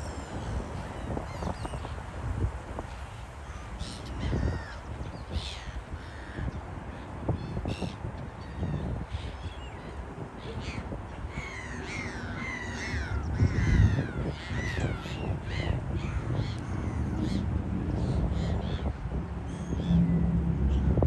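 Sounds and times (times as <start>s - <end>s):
wind rumble on microphone: 0.0s - 21.0s
gulls calling: 3.1s - 21.0s.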